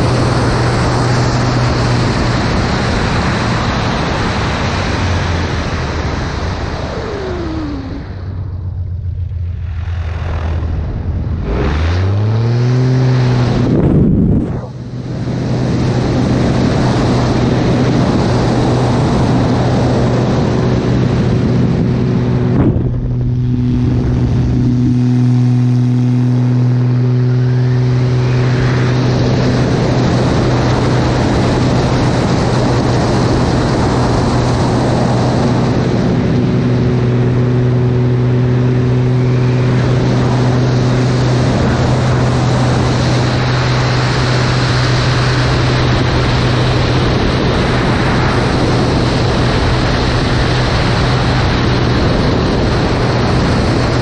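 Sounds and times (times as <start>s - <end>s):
propeller plane engine: 0.0s - 54.0s
wind rush: 0.0s - 54.0s.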